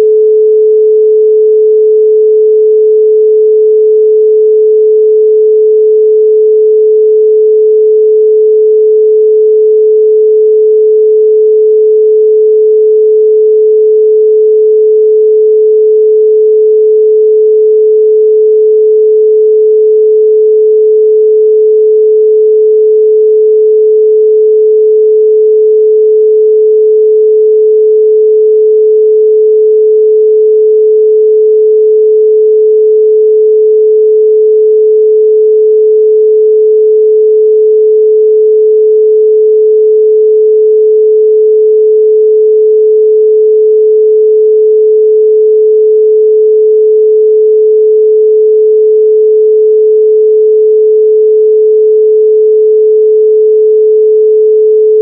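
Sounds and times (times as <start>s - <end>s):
pure sine tone: 0.0s - 55.0s.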